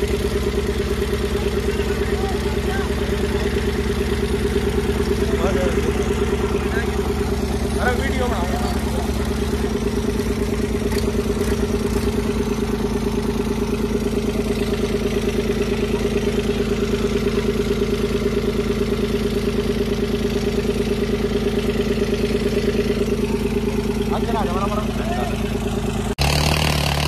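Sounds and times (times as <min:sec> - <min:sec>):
diesel tractor engine idling: 0:00.0 - 0:27.0.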